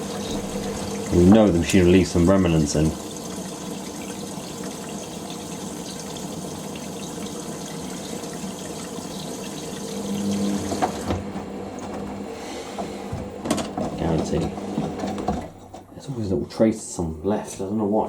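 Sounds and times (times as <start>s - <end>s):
water rushing into washing machine: 0.0s - 16.0s.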